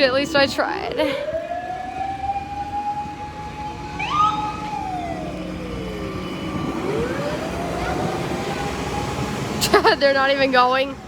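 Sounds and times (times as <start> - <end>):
high rising siren chirp: 0.0 - 9.6
wailing siren: 0.0 - 9.7.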